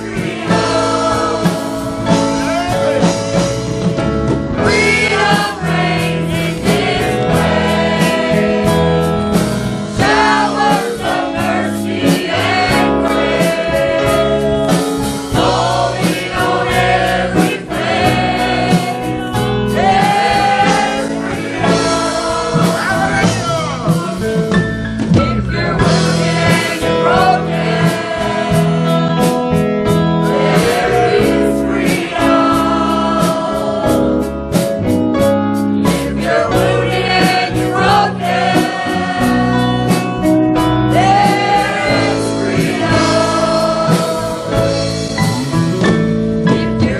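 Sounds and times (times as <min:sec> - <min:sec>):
choir singing with band: 0:00.0 - 0:46.9.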